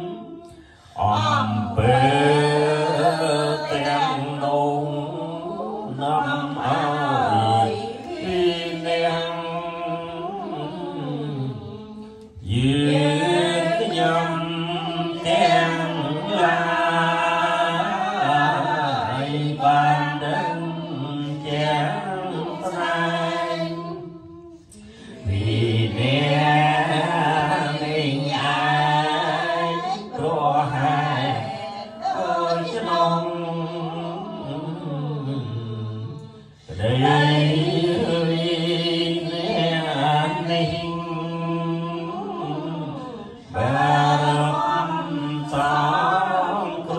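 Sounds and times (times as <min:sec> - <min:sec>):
chanting over a microphone: 0:00.0 - 0:46.9.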